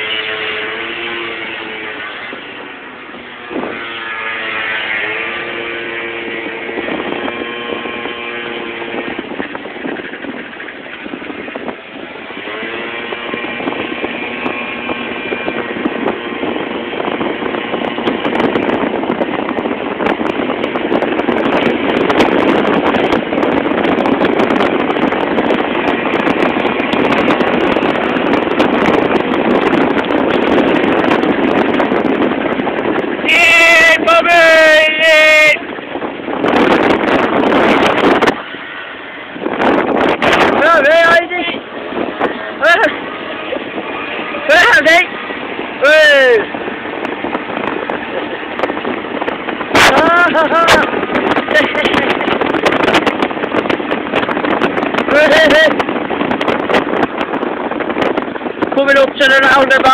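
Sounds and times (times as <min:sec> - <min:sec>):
moped engine accelerating: 0:00.0 - 0:33.2, 0:35.6 - 0:58.2
wind on microphone: 0:00.0 - 0:59.9.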